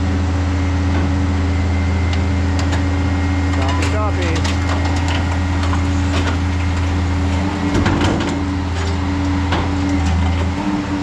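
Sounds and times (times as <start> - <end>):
hydraulic power unit hum: 0.0 - 11.0.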